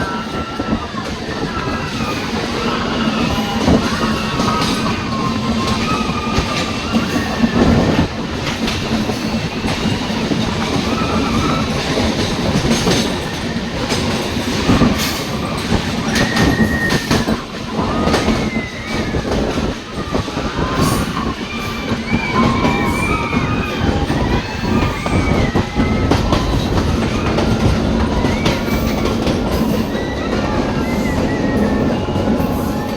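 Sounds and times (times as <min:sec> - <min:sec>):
train rumbling on rails: 0:00.0 - 0:32.9
wheels clicking over rail joints: 0:00.0 - 0:32.9
wheels squealing on curves: 0:00.0 - 0:32.9.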